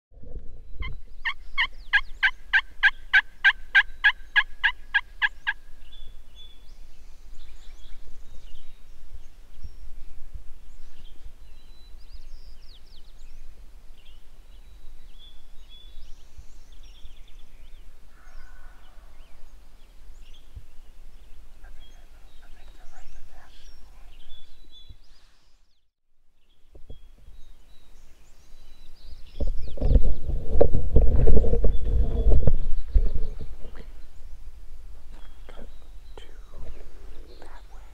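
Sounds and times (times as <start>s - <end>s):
faint songbird calls: 0.7s - 9.9s, 10.6s - 30.2s, 35.1s - 37.9s.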